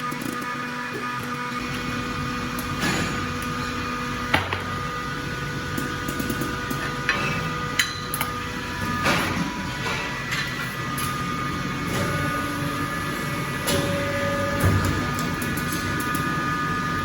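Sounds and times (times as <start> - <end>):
machinery hum and low rumble: 0.0 - 17.0.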